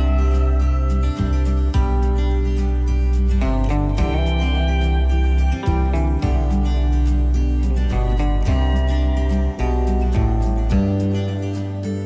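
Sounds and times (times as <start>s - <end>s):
acoustic guitar: 0.0s - 12.0s
bass and beat: 0.0s - 12.0s.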